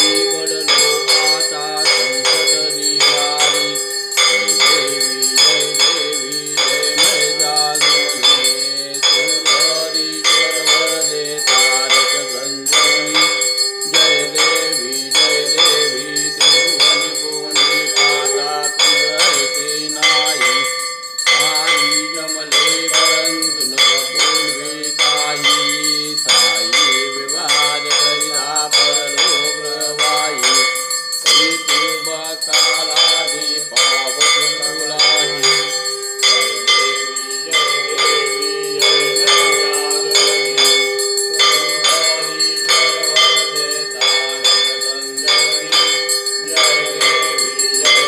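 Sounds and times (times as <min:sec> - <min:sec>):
brass hand bell ringing: 0:00.0 - 0:48.0
long held tone: 0:00.0 - 0:48.0
music: 0:00.0 - 0:48.0.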